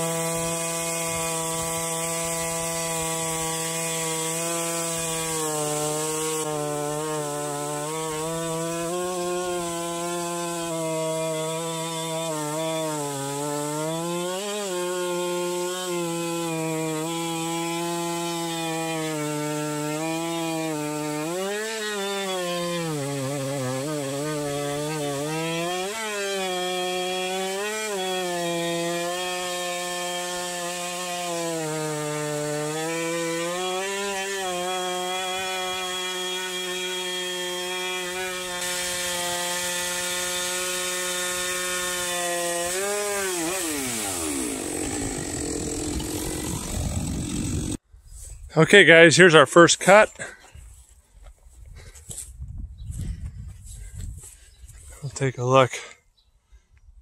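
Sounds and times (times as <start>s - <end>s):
chainsaw ripping a log: 0.0s - 47.8s.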